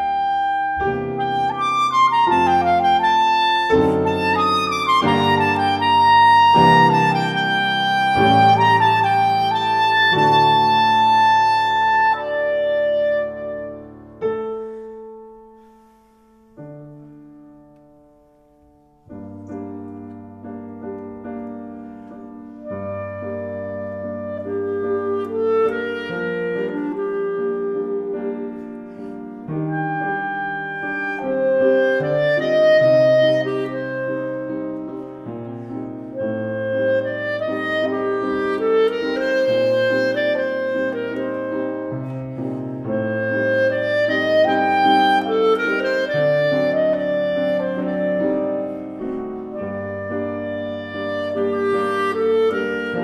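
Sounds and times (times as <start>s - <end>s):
clarinet playing classical music: 0.0s - 53.0s
piano accompaniment: 0.0s - 53.0s.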